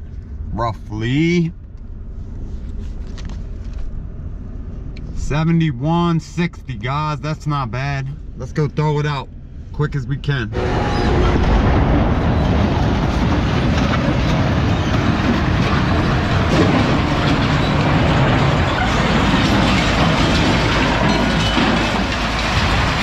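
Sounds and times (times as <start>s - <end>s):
vehicle rumbling and rattling: 0.0s - 23.0s.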